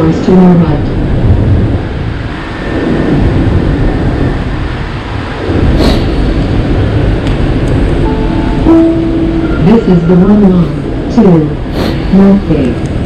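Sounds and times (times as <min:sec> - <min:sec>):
light rail train running: 0:00.0 - 0:13.0.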